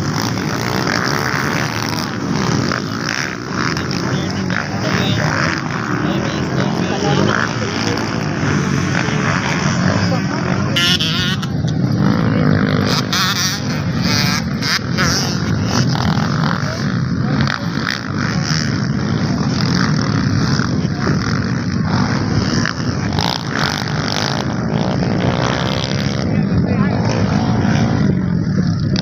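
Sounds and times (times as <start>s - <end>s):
dirt bike engines racing: 0.0s - 29.0s.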